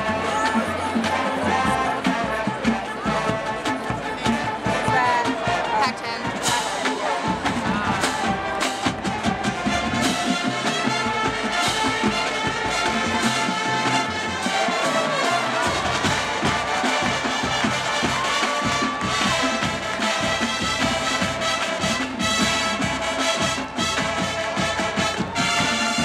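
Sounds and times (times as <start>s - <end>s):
marching band playing: 0.0s - 26.0s.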